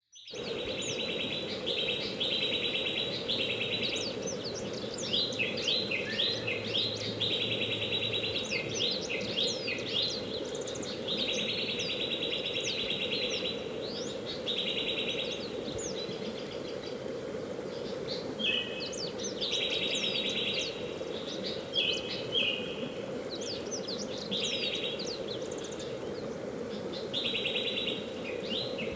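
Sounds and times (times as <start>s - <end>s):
songbirds chirping: 0.1s - 28.9s.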